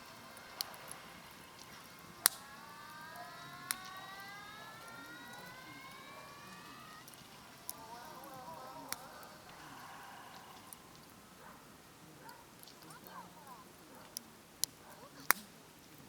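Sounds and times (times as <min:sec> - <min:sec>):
campfire crackling: 0:00.0 - 0:16.0
thin whistle from burning wood: 0:00.0 - 0:16.0.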